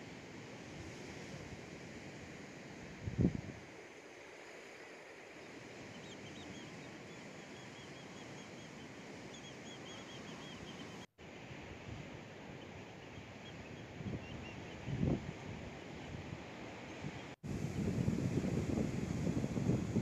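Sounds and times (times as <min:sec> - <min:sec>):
light wind: 0:00.0 - 0:20.0
sea wash: 0:00.0 - 0:20.0.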